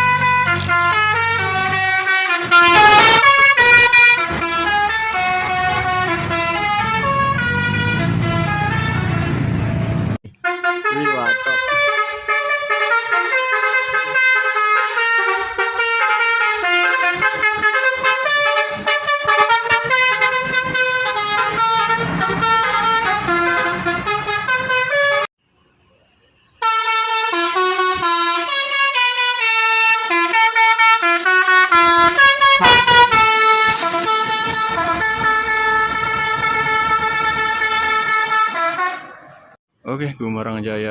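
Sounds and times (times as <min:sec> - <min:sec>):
musical bus horn tune: 0:00.0 - 0:25.3, 0:26.5 - 0:39.6.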